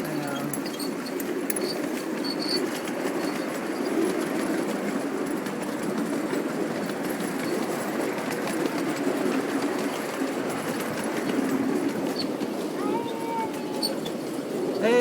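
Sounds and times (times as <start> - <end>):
miniature train rumbling: 0.0 - 15.0
train wheels clicking: 0.0 - 15.0.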